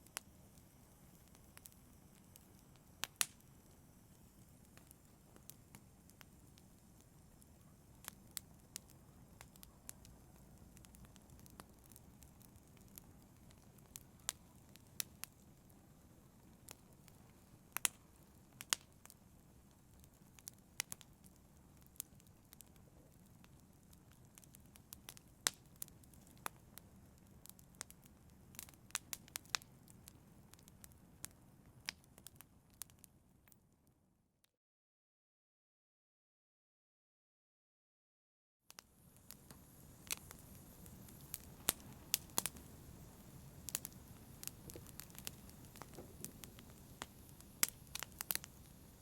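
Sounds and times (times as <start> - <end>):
low rumble of burning: 0.0 - 33.6, 38.8 - 49.0
wood fire crackling and popping: 0.0 - 33.6, 38.7 - 49.0.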